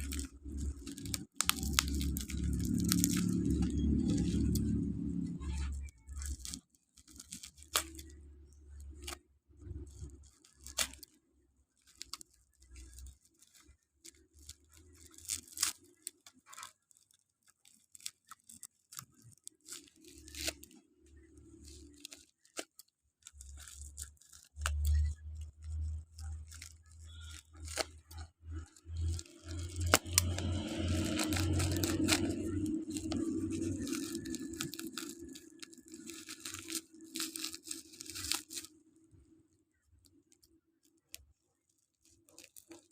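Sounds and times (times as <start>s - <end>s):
packaging tearing and rustling: 0.0s - 11.2s, 11.8s - 39.4s, 40.0s - 42.9s
packaging crinkling and clicking: 0.0s - 42.9s.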